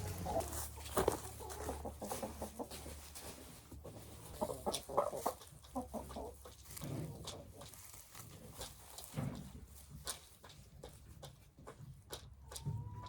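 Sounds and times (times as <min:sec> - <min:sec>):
chickens clucking softly: 0:00.0 - 0:13.0.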